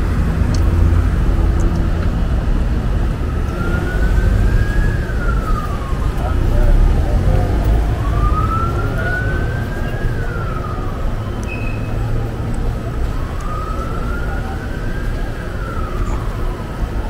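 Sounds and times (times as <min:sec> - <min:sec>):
street traffic rumble: 0:00.0 - 0:17.0
siren wailing: 0:02.8 - 0:17.0.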